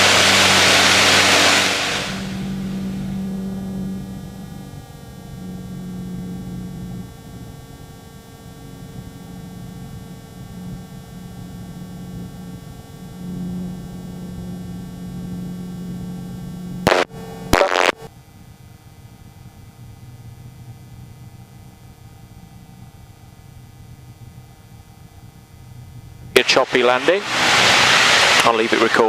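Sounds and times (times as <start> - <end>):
microlight engine droning: 0.0 - 29.0.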